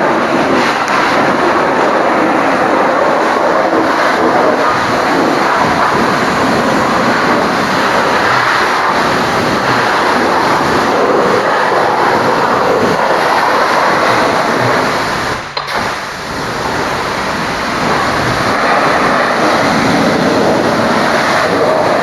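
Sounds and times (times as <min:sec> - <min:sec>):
high-pressure water jet spraying: 0:00.0 - 0:22.0.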